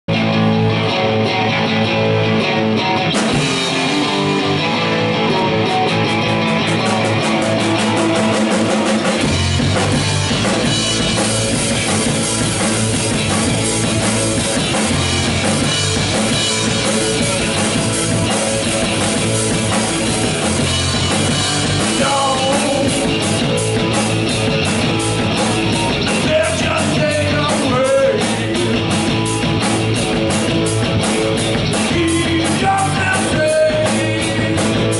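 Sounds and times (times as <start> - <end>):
bass guitar: 0.0 - 34.9
electric guitar: 0.1 - 34.9.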